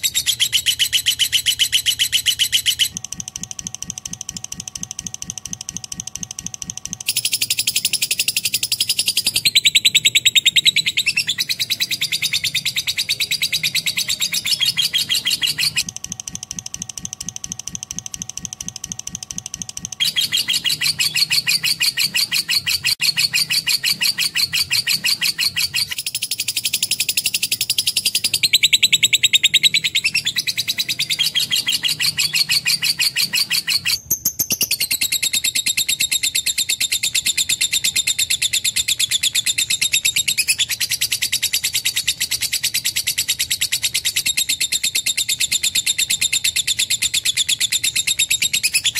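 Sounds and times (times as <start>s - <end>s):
lovebird chattering: 0.0s - 48.9s.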